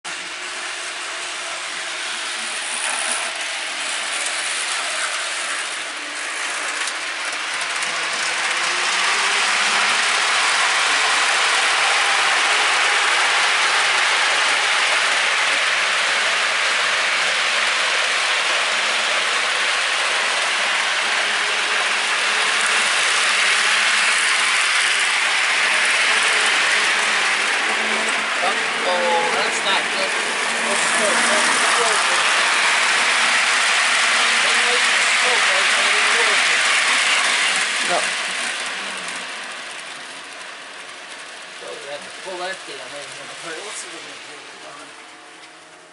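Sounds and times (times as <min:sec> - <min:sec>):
model train whirring rattle: 0:00.1 - 0:45.9.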